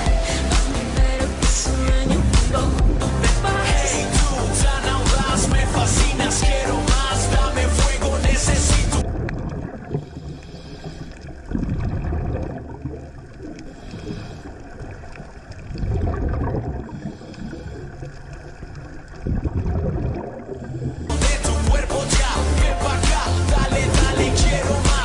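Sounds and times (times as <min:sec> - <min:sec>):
underwater exhaled bubbles gurgling: 0:00.0 - 0:07.5, 0:08.2 - 0:21.1, 0:23.1 - 0:25.0
low underwater rumble: 0:00.0 - 0:25.0.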